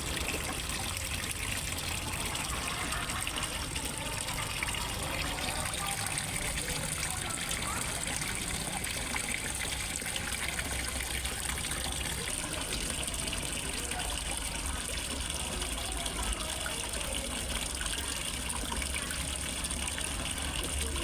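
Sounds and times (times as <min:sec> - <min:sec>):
water splashing into a pond: 0:00.0 - 0:21.0.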